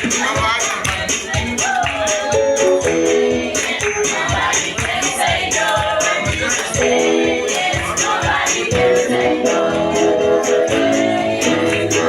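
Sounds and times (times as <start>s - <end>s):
band playing: 0.0s - 12.0s
tambourine beat: 0.0s - 12.0s
voices singing gospel: 0.0s - 12.0s.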